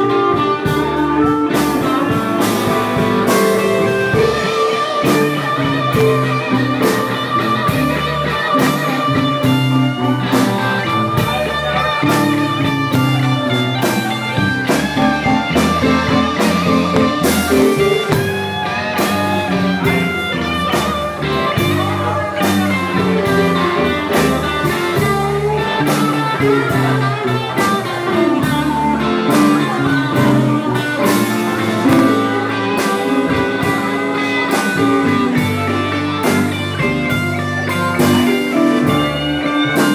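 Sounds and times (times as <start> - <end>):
blues band playing: 0.0 - 39.9
electric guitar: 0.0 - 39.9.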